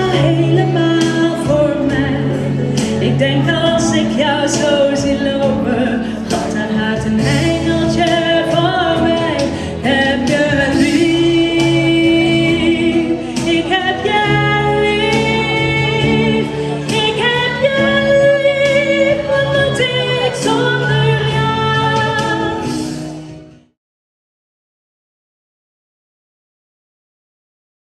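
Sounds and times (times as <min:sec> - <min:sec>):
woman singing pop ballad: 0:00.0 - 0:23.1
band with bass and drums: 0:00.0 - 0:23.6.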